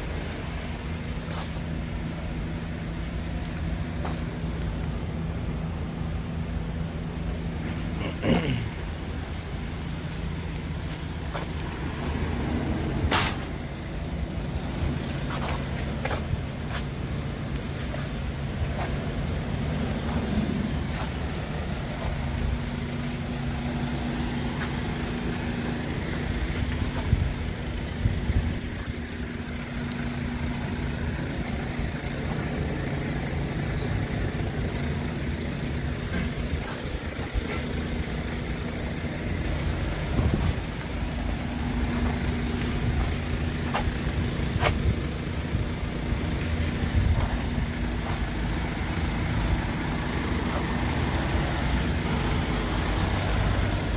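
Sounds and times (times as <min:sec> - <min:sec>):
diesel engine idling: 0:00.0 - 0:53.9
low uneven rumble: 0:00.0 - 0:53.9.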